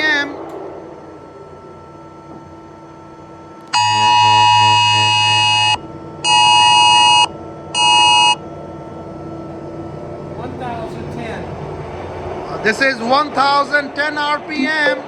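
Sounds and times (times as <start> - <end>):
electric buzzer blasts: 0.0 - 15.0
faint lathe hum: 0.0 - 15.0.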